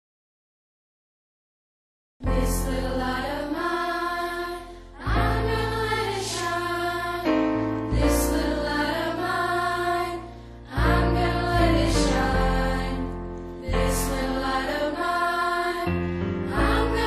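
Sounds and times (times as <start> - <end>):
choir-like voices holding notes: 2.2 - 17.0.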